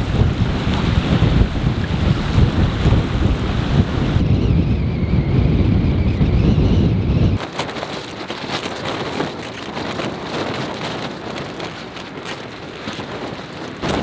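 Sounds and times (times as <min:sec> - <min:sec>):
tent walls flapping in wind: 0:00.0 - 0:14.0.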